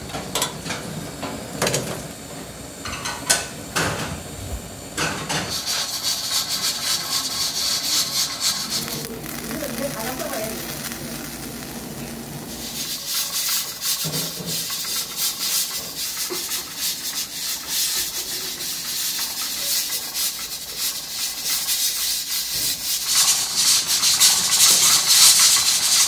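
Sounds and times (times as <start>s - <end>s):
broth boiling in a pot: 0.0s - 26.0s.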